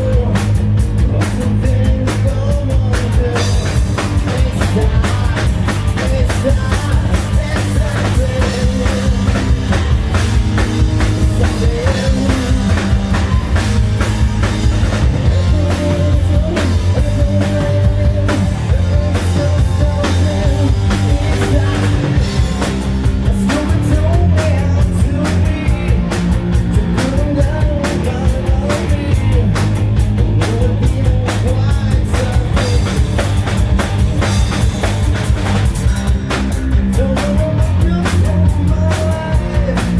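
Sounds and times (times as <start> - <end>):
drum kit beat: 0.0 - 39.9
hard rock band playing live: 0.0 - 39.9.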